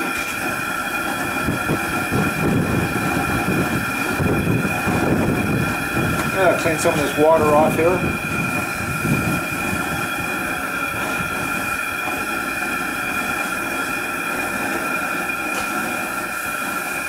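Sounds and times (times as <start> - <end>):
gas burner flame rushing: 0.0 - 17.0.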